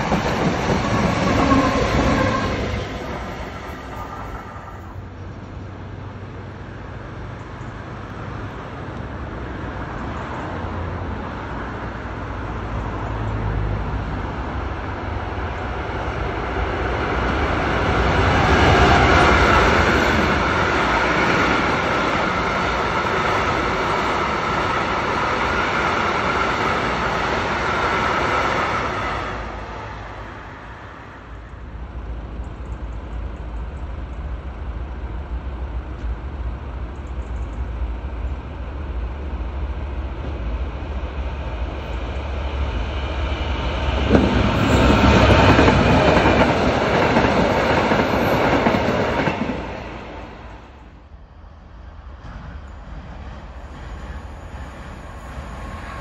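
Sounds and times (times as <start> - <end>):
freight train wagons rumbling past: 0.0 - 56.0
train approaching rumble: 0.0 - 56.0.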